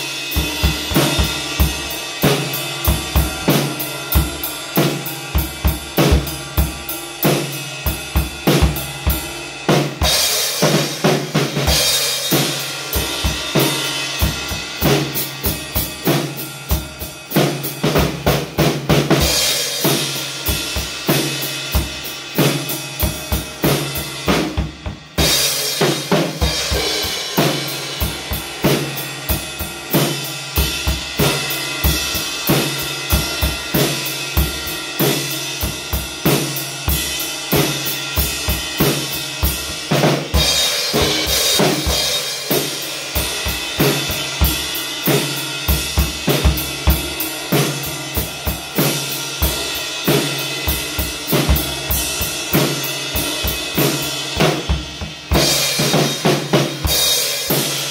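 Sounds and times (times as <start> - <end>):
acoustic drum kit playing: 0.0 - 57.9.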